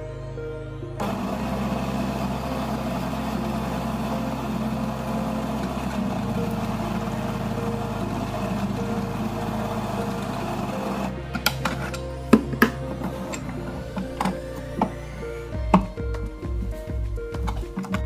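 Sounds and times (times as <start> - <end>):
drill press boring into wood: 1.0 - 16.0.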